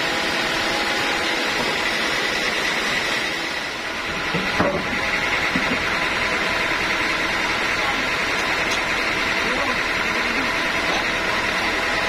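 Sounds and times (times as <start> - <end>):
band saw running: 0.0 - 12.0.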